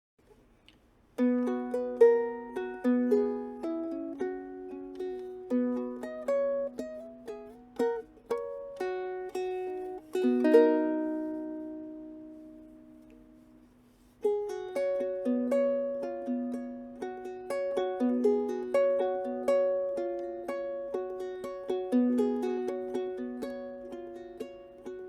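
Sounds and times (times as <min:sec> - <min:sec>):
fingerpicked ukulele melody: 0:00.7 - 0:25.0.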